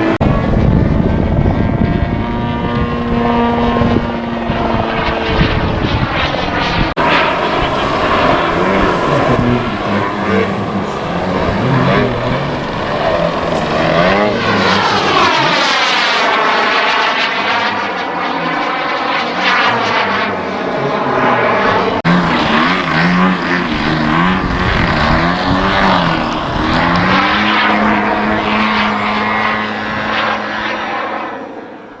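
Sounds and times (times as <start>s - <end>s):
propeller aircraft engine in flight: 0.0s - 32.0s.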